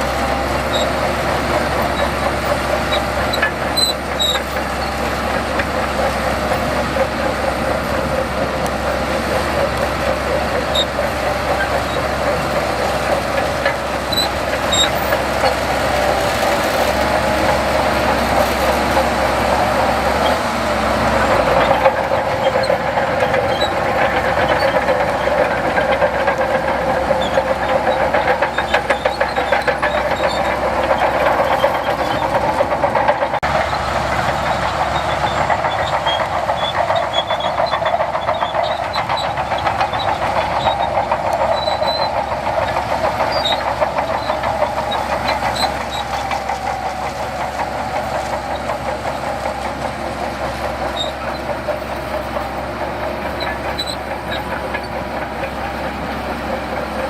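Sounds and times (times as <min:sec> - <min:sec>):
heavy machinery running: 0:00.0 - 0:57.0
short metallic squeaks: 0:00.3 - 0:33.8, 0:34.6 - 0:57.0.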